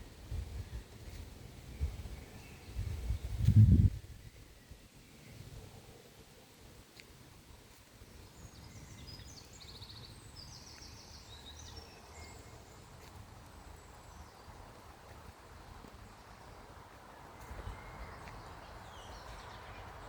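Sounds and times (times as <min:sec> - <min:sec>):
songbird chirping and trilling: 0:00.6 - 0:05.6, 0:08.1 - 0:20.0.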